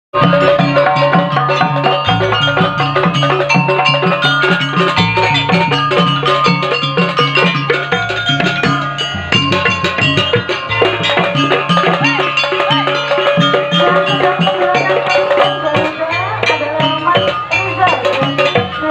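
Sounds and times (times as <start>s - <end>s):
steady drum beat: 0.1s - 18.9s
mallet-struck pitched percussion: 0.2s - 18.9s.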